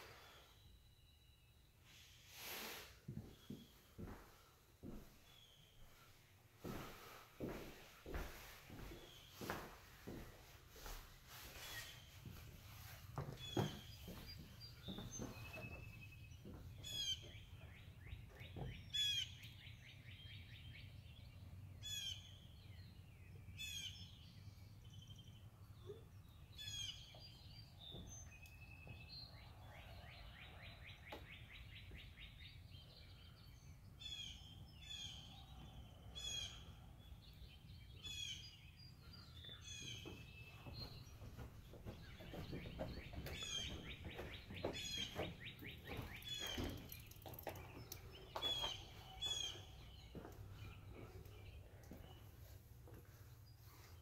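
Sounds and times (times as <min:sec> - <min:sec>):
birds singing: 0:06.8 - 0:54.0.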